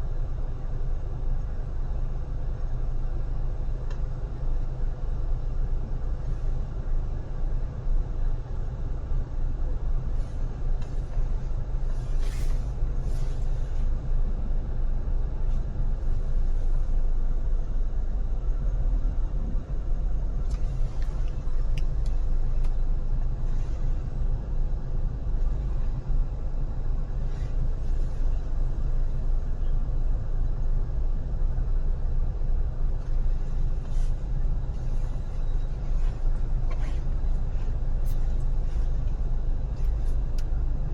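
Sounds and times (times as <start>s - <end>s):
car tyre and engine rumble: 0.0s - 40.9s.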